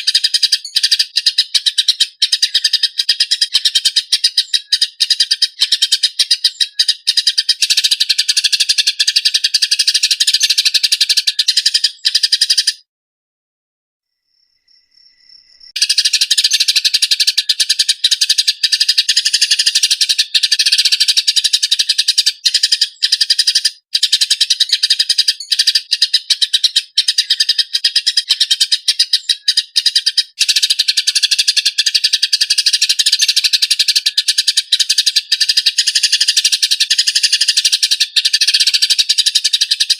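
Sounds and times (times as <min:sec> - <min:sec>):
sparrows chattering chirps: 0:00.0 - 0:12.8, 0:15.7 - 0:39.9.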